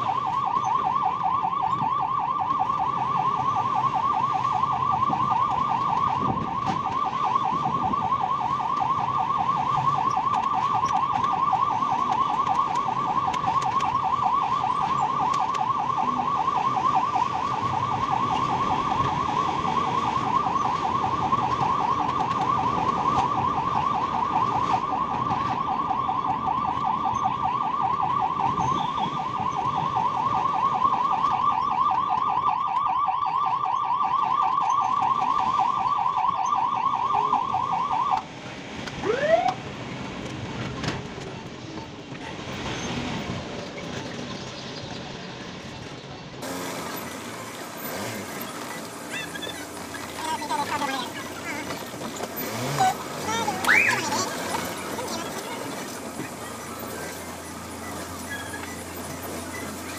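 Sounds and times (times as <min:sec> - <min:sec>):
ambulance siren warbling: 0:00.0 - 0:39.8, 0:46.4 - 0:59.9
engine and road noise: 0:00.0 - 0:59.9.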